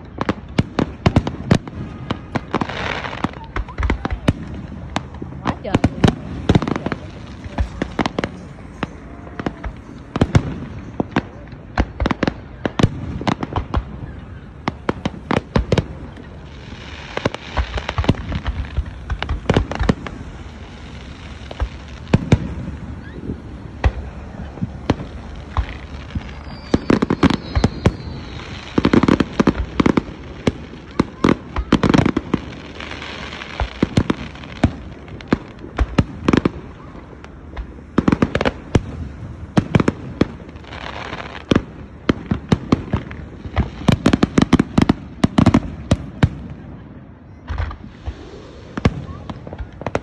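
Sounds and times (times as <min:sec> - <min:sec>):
fireworks bursting with echo: 0:00.0 - 0:50.0.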